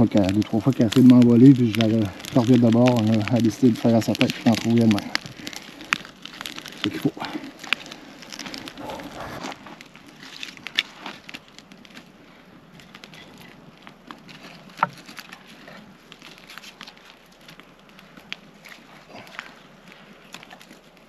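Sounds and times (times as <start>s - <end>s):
sticks crackling and snapping: 0.0s - 21.0s.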